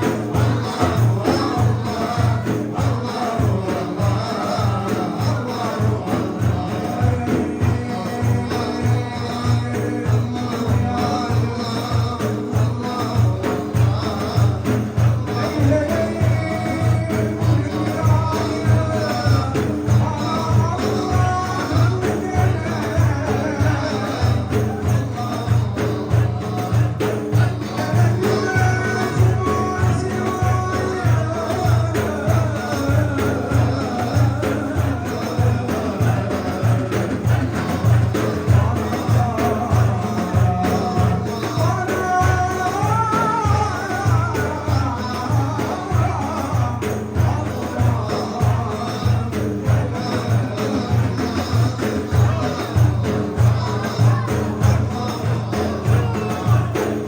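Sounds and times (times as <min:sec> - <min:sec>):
hand drum beat: 0:00.0 - 0:57.0
person singing a hymn: 0:00.0 - 0:57.0.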